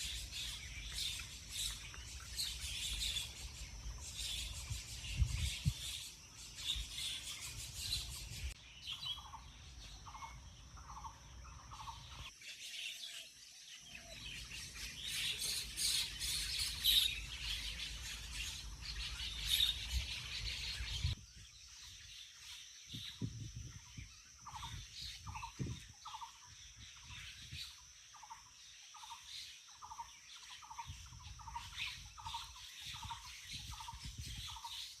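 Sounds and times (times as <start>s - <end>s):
birds chirping and calling: 0.0s - 35.0s.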